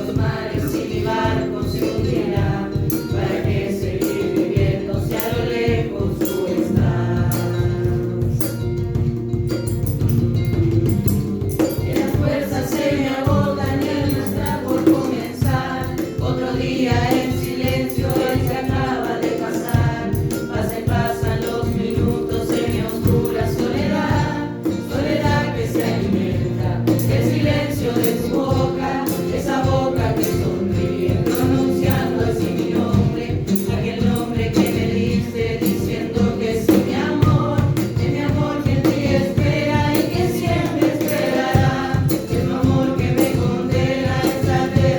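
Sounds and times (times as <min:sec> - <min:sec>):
group singing over a beat: 0:00.0 - 0:08.9, 0:11.5 - 0:44.9.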